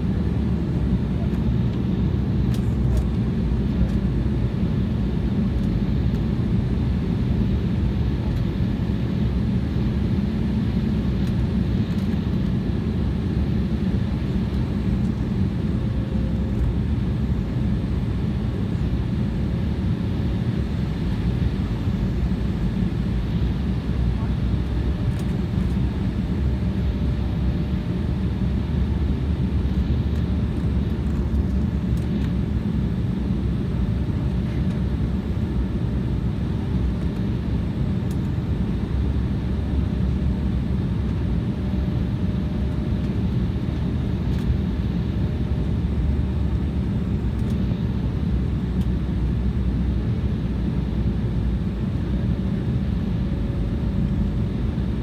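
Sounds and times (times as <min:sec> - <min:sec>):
engine and airflow rumble: 0:00.0 - 0:55.0.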